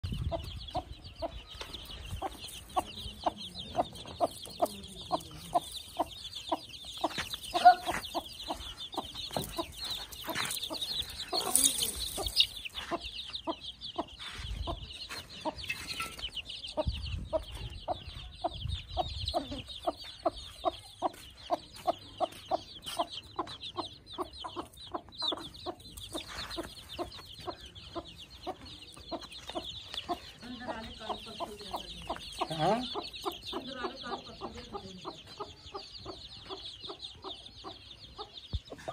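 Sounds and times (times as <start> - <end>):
chicks cheeping: 0.0 - 38.9
hen clucking: 0.0 - 38.9.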